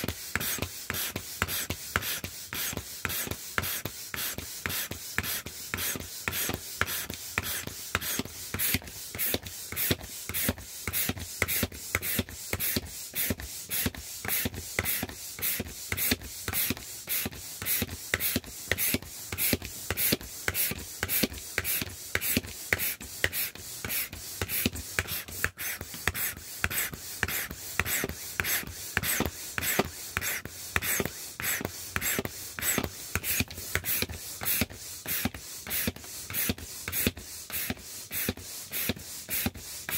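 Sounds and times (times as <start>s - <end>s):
air pump puffing: 0.0s - 39.9s.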